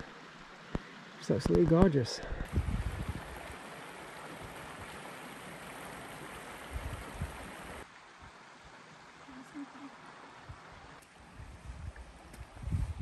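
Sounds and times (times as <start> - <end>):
river rushing over stones: 0.0 - 11.4.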